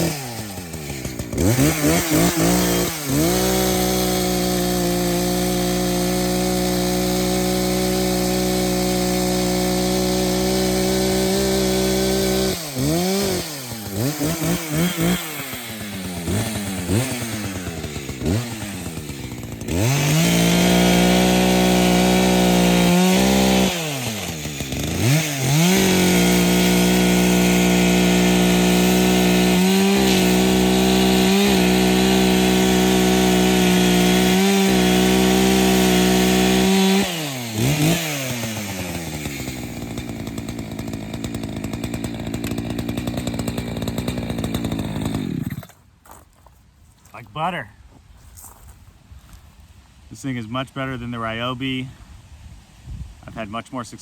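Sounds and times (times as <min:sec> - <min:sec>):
chainsaw cutting wood: 0:00.0 - 0:46.2.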